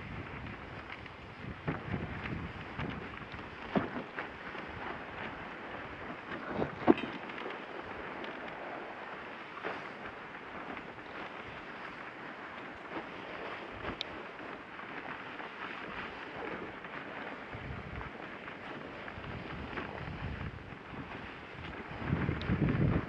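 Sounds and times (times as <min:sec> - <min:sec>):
steady rushing noise: 0:00.0 - 0:23.0
wind on microphone: 0:00.0 - 0:23.0.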